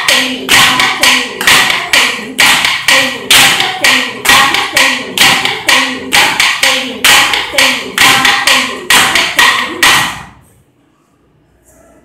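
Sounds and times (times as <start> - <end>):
sharp wooden taps: 0.0 - 10.2.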